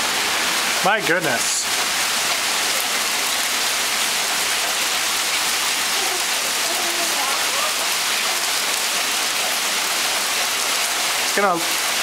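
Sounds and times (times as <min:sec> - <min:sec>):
hail falling on ground: 0:00.2 - 0:12.0.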